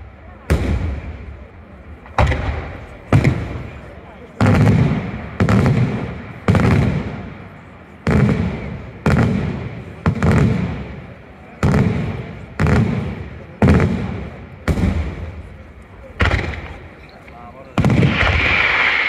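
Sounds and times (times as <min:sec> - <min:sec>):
fireworks bursting with loud bangs: 0:00.0 - 0:19.0
rolling echo: 0:00.0 - 0:19.0.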